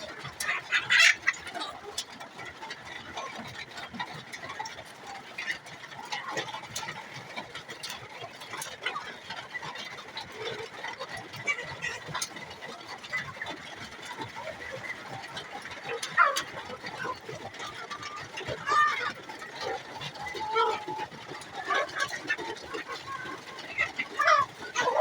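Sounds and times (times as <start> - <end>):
chickens clucking and peeping: 0.0 - 25.0.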